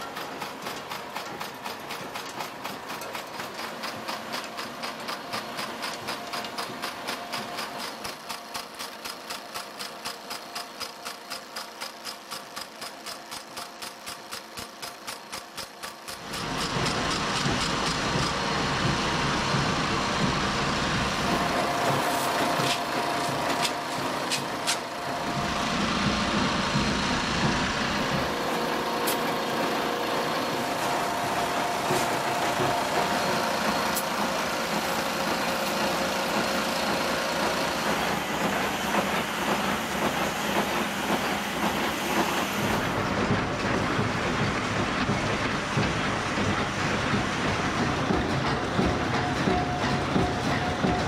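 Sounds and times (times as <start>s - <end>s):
workshop machinery running: 0.0s - 51.0s.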